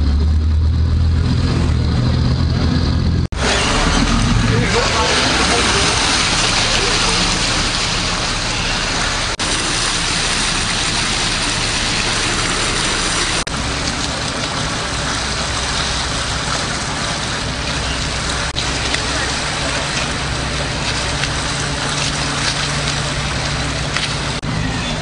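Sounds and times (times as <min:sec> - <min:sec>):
motor engine droning: 0:00.0 - 0:25.0.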